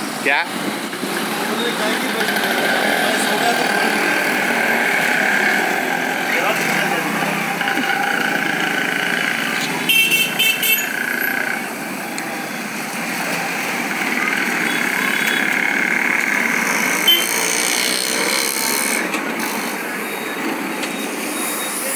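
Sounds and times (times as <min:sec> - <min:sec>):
passing traffic engines: 0:00.0 - 0:21.9.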